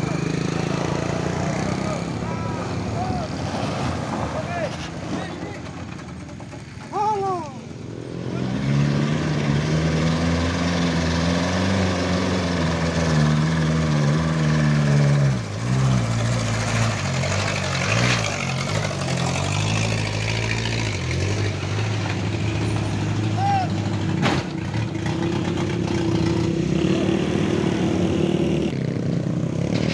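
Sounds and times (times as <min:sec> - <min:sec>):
second pickup engine: 0:00.0 - 0:29.9
truck engine working hard: 0:00.0 - 0:29.9.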